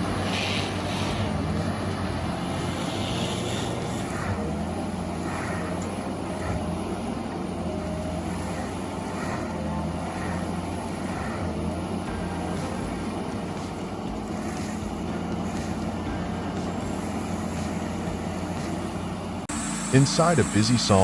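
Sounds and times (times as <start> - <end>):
heavy machine engine humming: 0.0 - 21.0.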